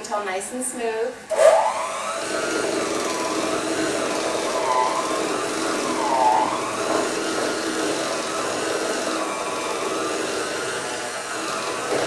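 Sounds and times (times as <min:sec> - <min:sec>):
electric mixer whirring: 0:01.3 - 0:12.0.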